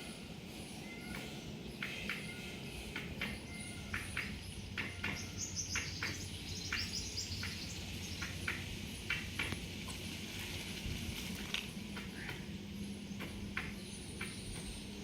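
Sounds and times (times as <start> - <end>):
small birds chirping: 0.0 - 10.1, 11.9 - 15.0.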